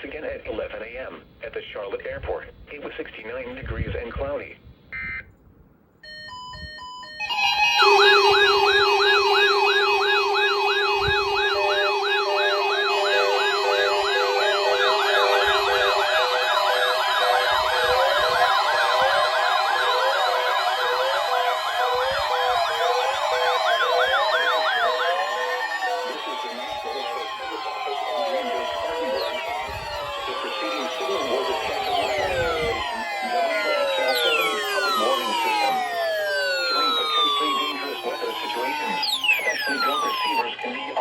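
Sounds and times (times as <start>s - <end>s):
weather alert radio alarms: 5.0s - 5.3s, 6.0s - 40.5s.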